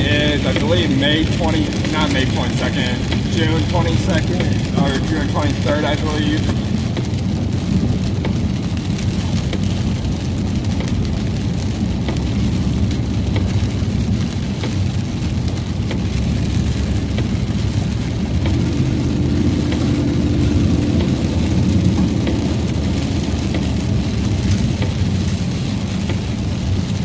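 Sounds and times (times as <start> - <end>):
raindrops ticking on vehicle: 0.0 - 27.0
road and engine rumble: 0.0 - 27.0.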